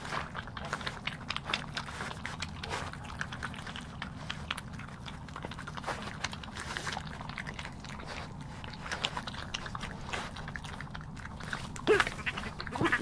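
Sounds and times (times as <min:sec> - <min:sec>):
animals crunching peanuts: 0:00.0 - 0:13.0.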